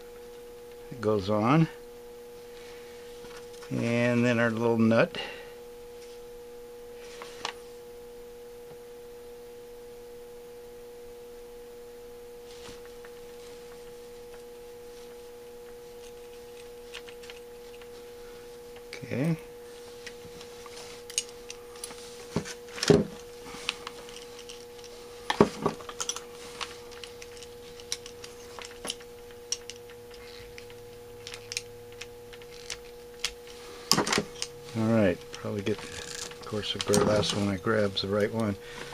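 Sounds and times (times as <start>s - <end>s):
steady multi-pitch hum: 0.0s - 38.9s.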